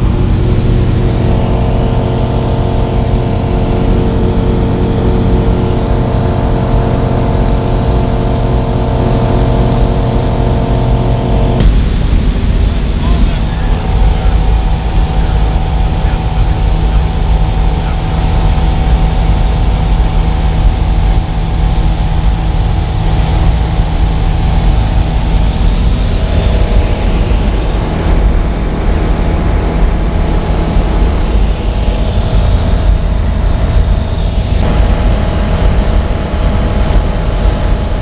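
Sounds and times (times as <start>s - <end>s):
light aircraft engine droning: 0.0s - 38.0s.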